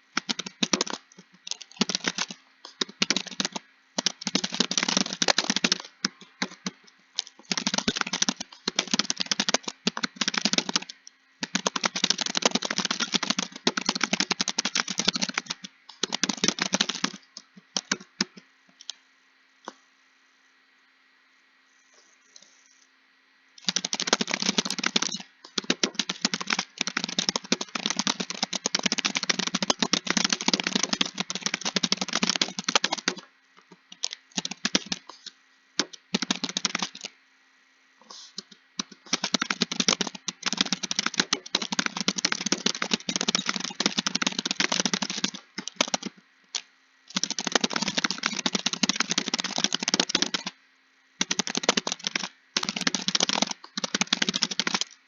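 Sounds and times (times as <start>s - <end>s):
fast typing on keyboard: 0.0s - 18.4s, 23.6s - 33.2s, 33.9s - 37.1s, 38.4s - 50.6s, 51.2s - 55.0s.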